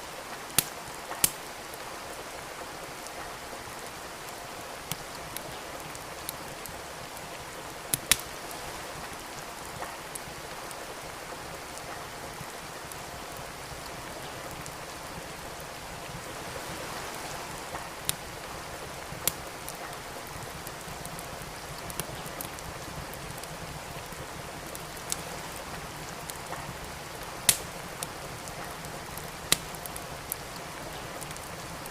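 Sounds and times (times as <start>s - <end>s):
steady rain: 0.0s - 31.9s
wood fire crackling and popping: 0.1s - 31.9s.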